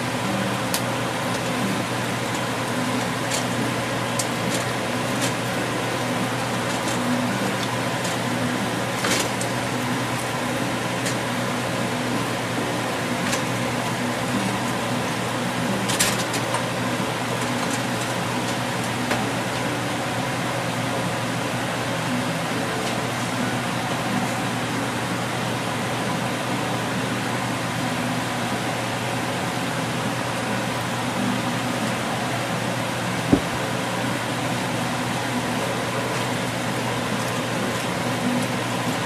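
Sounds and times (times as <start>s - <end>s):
steady whirring hiss: 0.0s - 39.0s.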